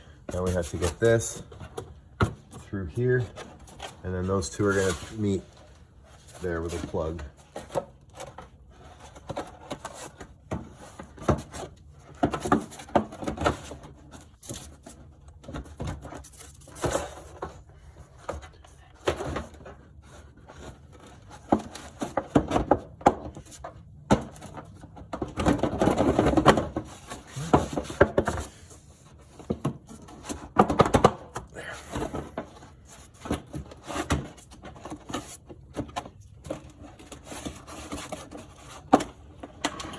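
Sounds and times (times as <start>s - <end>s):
car parts knocking and rattling: 0.0s - 4.0s, 7.0s - 39.9s.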